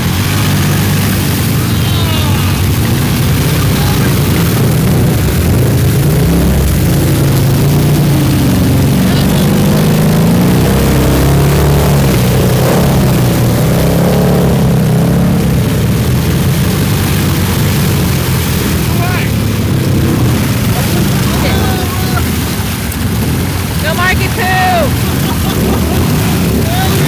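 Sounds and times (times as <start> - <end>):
quad engine revving: 0.0 - 27.0.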